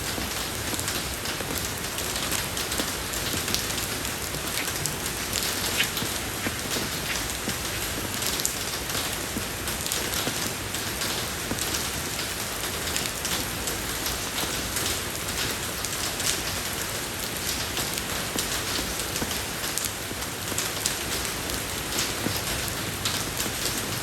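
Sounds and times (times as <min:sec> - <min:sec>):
rain falling on road: 0:00.0 - 0:24.0.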